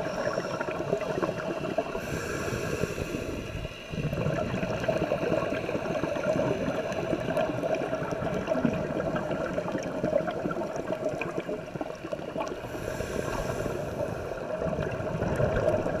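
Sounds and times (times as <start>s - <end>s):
underwater gurgling and bubbling: 0.0s - 16.0s.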